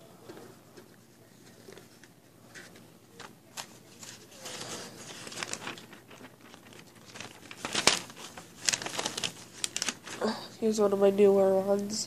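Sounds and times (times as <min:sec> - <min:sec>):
paper rustling and crinkling: 0:00.2 - 0:10.4.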